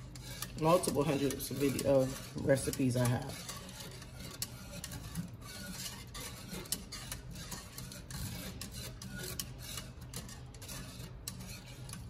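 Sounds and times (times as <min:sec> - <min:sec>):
wire whisk scraping metal pot: 0:00.0 - 0:12.0.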